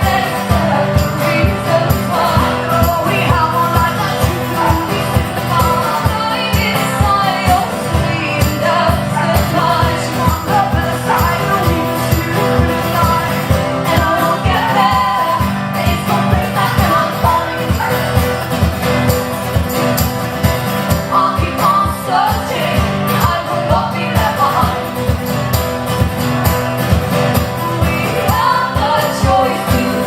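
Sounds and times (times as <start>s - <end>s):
jingling tambourine-like percussion: 0.0s - 30.0s
live band music: 0.0s - 30.0s.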